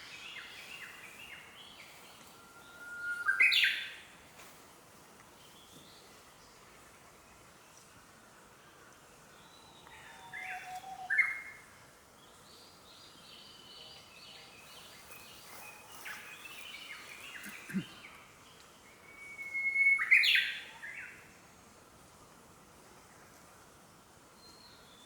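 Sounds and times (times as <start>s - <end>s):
forest birdsong: 0.0s - 25.0s.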